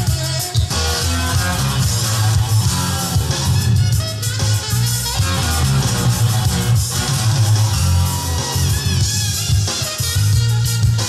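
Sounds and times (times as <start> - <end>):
rock music from cassette: 0.0 - 11.0.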